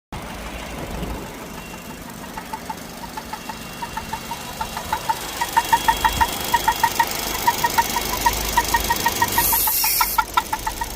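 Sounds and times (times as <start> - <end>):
car engine humming: 0.2 - 10.9
high-pitched chirps: 1.6 - 10.9.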